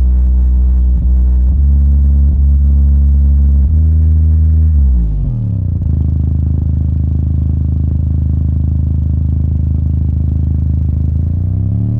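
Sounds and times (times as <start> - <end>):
subwoofer buzzy bass tone: 0.0 - 11.9.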